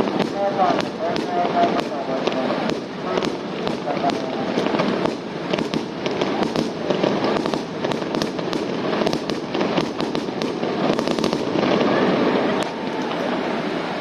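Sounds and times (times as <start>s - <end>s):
fireworks popping and crackling: 0.0s - 13.7s.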